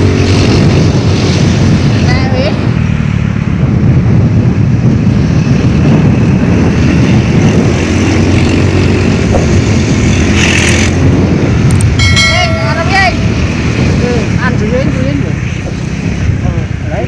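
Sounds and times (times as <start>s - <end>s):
wind gusting over microphone: 0.0s - 17.0s.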